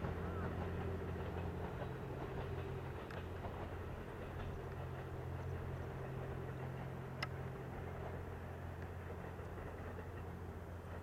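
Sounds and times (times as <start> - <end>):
train diesel engine drone: 0.0 - 11.0.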